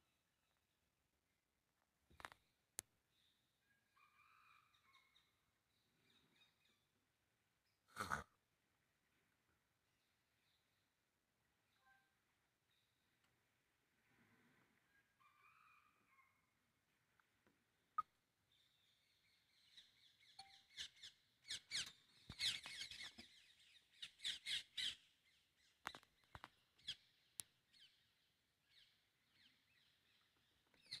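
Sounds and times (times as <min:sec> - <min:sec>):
faint birds chirping: 0:02.1 - 0:31.0.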